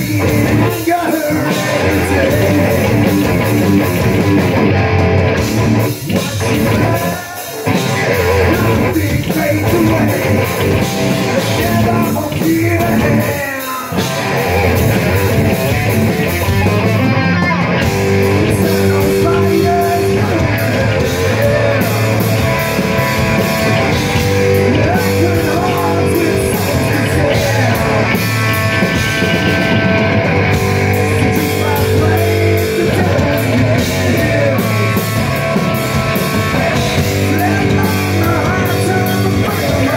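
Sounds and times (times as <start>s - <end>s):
man singing: 0.0s - 3.9s, 6.0s - 15.3s, 17.2s - 23.0s, 23.9s - 29.2s, 30.6s - 39.9s
bass guitar: 0.0s - 39.9s
drum kit: 0.0s - 39.9s
electric guitar: 0.0s - 39.9s.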